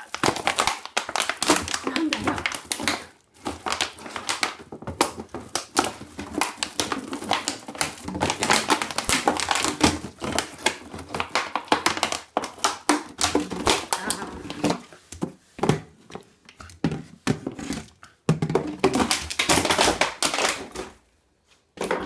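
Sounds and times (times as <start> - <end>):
plastic bottle crinkling: 0.0 - 21.1.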